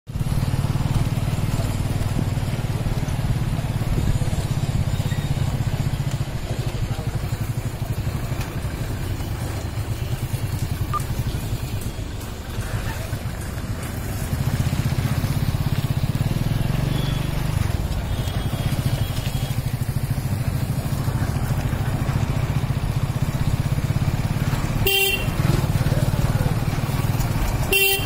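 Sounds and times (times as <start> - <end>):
motorcycle engine chugging: 0.1 - 28.0.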